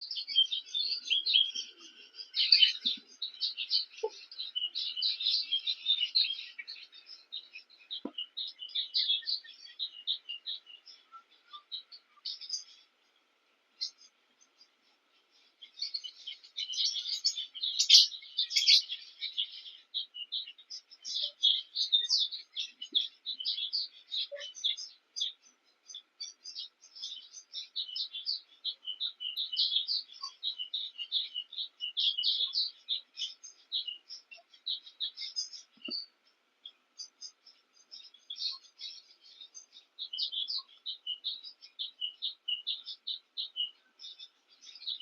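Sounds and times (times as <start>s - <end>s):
birds chattering and chirping: 0.0s - 45.0s.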